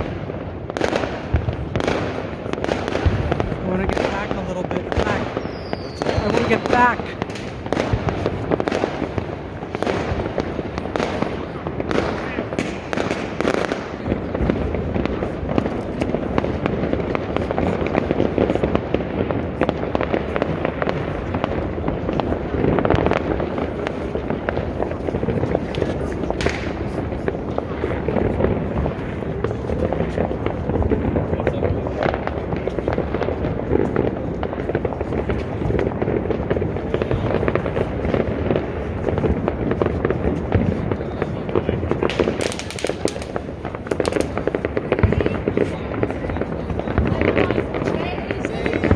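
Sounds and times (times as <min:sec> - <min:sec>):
distant explosions rumbling: 0:00.0 - 0:48.9
fireworks crackling and banging: 0:00.0 - 0:48.9.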